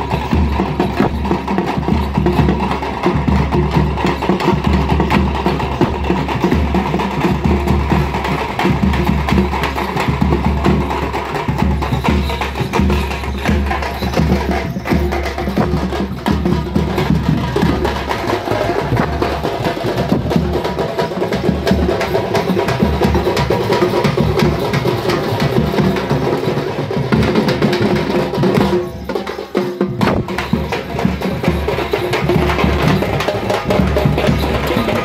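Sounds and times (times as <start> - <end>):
frame drums beaten with sticks: 0.0 - 35.0.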